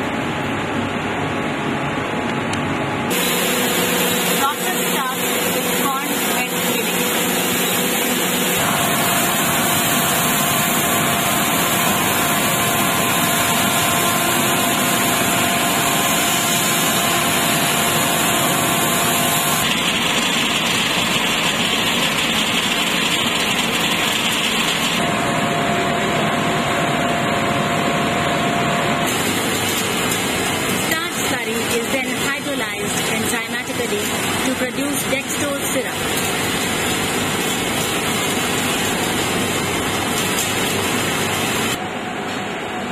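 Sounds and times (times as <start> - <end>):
factory machinery humming: 0.0 - 42.9.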